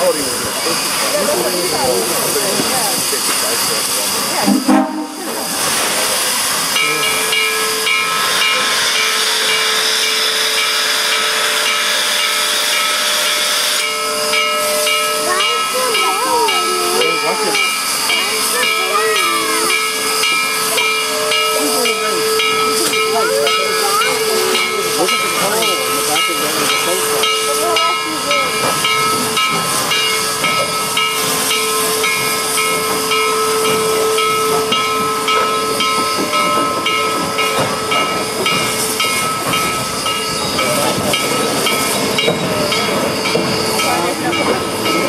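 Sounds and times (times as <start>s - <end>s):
steam locomotive hissing: 0.0s - 45.0s.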